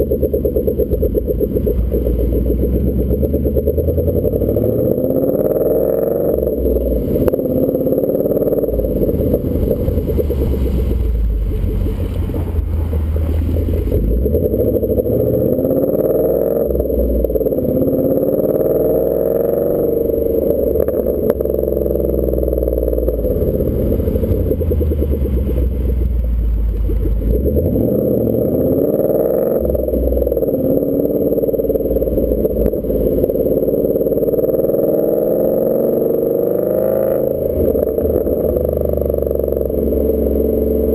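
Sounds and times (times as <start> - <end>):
car engine revving while driving: 0.0 - 40.9.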